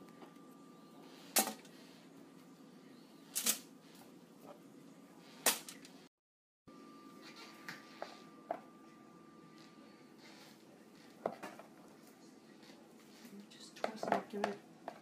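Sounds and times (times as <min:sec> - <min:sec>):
faint steady hum: 0:00.0 - 0:06.1, 0:06.7 - 0:15.0.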